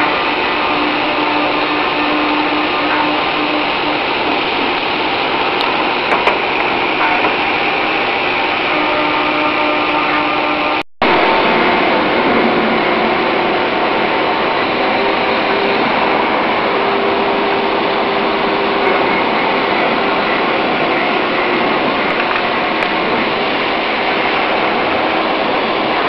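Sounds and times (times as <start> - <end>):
circular saw cutting metal: 0.0 - 26.0.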